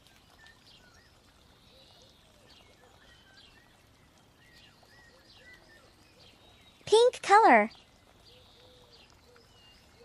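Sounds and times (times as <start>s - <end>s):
faint birds chirping: 0.0s - 10.0s.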